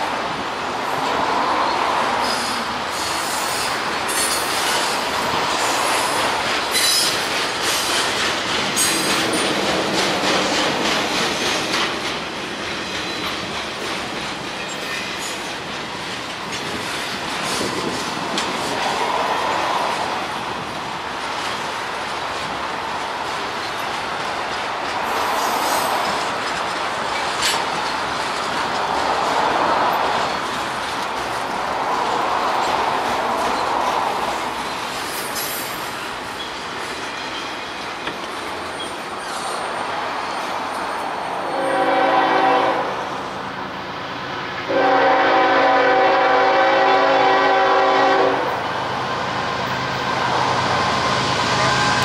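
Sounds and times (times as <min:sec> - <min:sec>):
train cars rolling on rails: 0:00.0 - 0:52.0.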